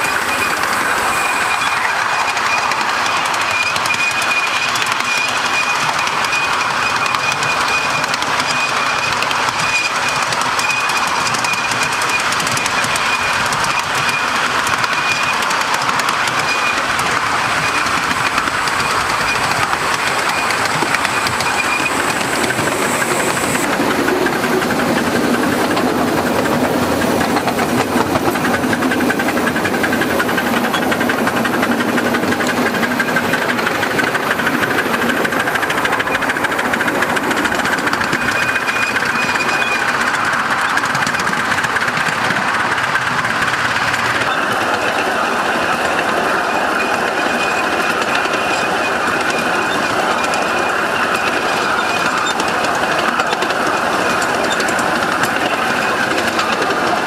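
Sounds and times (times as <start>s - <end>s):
miniature steam locomotive running: 0.0s - 57.0s.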